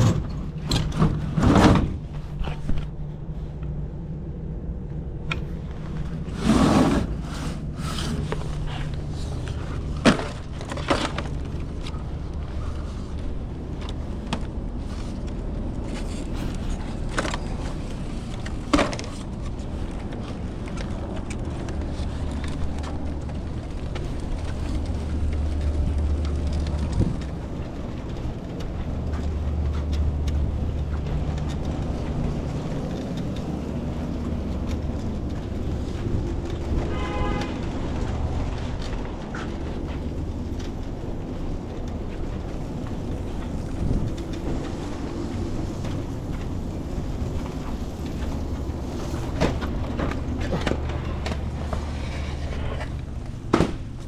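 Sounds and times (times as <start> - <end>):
low mechanical rumble: 0.0 - 54.0.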